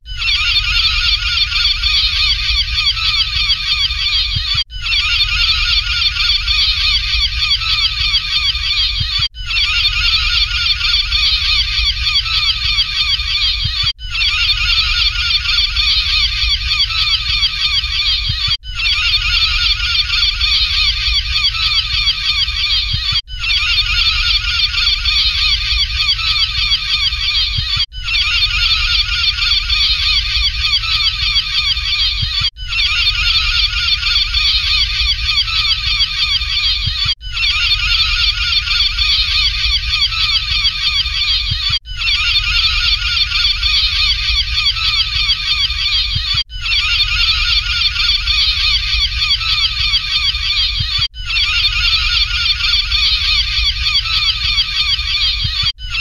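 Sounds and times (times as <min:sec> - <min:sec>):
gulls calling: 0:00.1 - 0:56.0.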